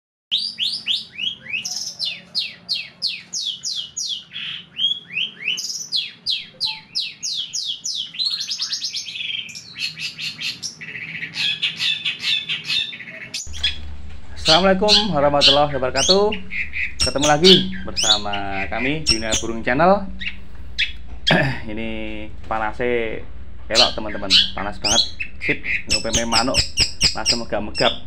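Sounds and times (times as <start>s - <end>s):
bird singing sharp high notes: 0.3s - 21.4s, 23.7s - 28.0s
bird chattering: 0.3s - 21.7s, 23.7s - 28.0s.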